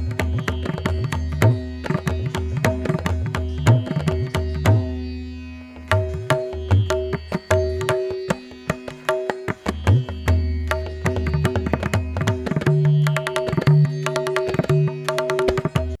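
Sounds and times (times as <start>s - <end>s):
tabla playing: 0.0s - 16.0s.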